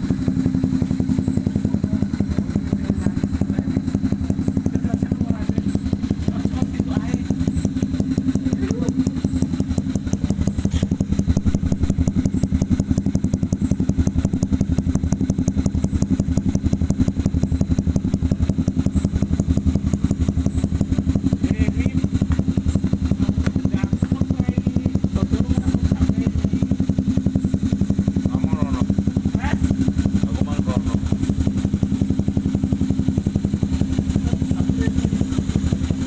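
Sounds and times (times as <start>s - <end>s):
motorcycle engine idling: 0.0s - 36.0s.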